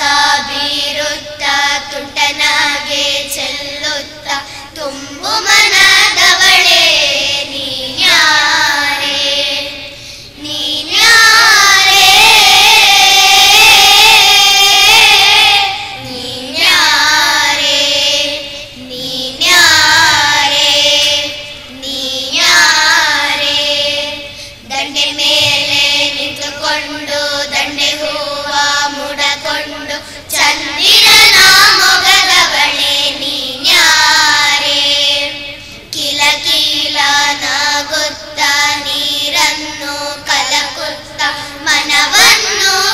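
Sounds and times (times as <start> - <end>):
children singing into microphones: 0.0 - 42.9.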